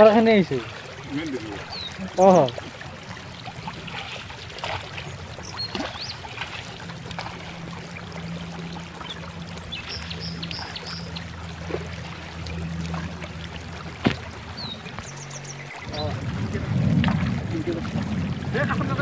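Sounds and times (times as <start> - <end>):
distant boat engine drone: 0.0 - 19.0.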